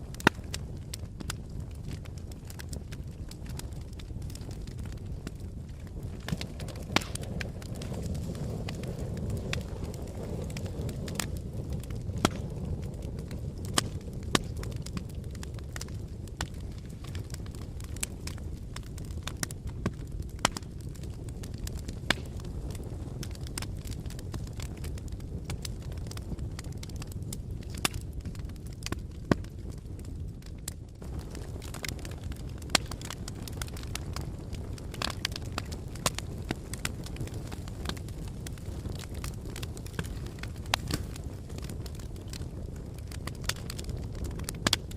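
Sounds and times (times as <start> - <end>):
fire crackling and popping: 0.0 - 44.9
fire rumbling: 0.0 - 44.9.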